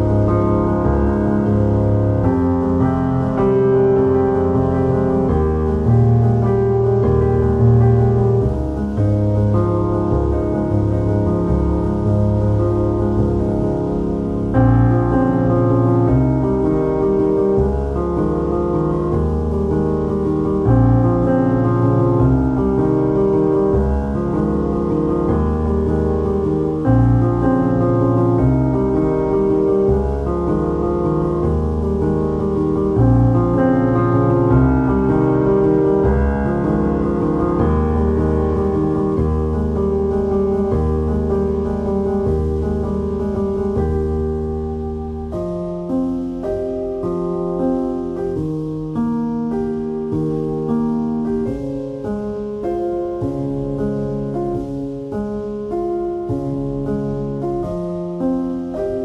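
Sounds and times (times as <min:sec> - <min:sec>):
calm piano chords: 0:00.0 - 0:59.0.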